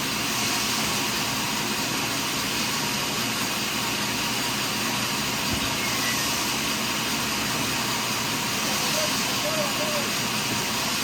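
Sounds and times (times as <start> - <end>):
portable sawmill running: 0.0 - 11.0.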